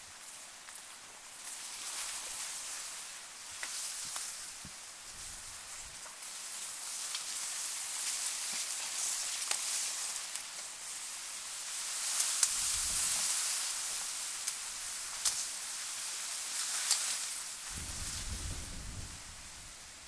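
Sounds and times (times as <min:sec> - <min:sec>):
high outdoor hiss: 0:00.0 - 0:20.0.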